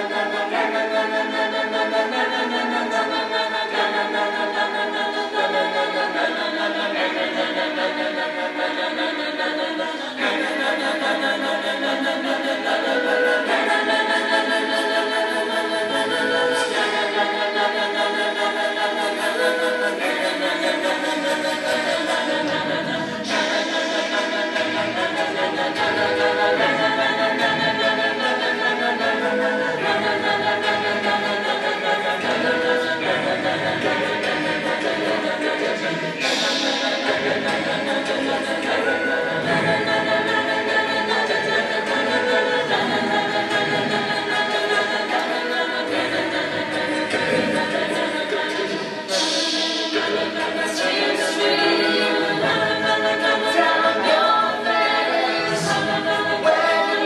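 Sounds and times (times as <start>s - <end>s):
a cappella group singing: 0.0s - 57.0s.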